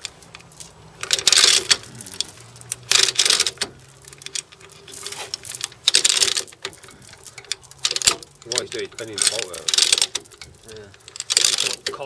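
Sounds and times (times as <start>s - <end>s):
ratchet clicking in bursts: 1.0s - 12.0s.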